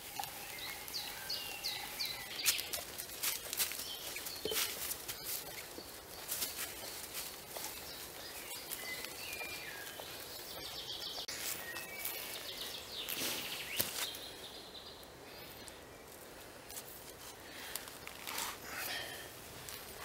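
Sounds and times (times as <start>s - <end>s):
birds chirping: 0.0s - 20.0s
rustle in dry leaves: 0.0s - 20.0s.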